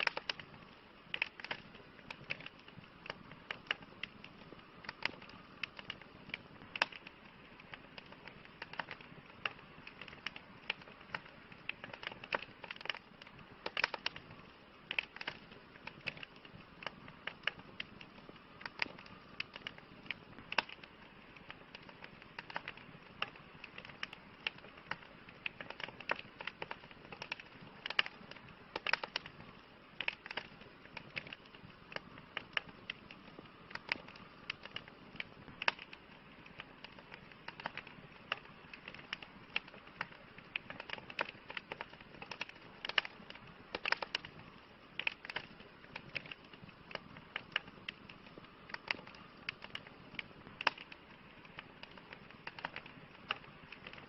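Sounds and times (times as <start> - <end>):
campfire crackling: 0.0 - 54.0
soft steady hiss: 0.0 - 54.0.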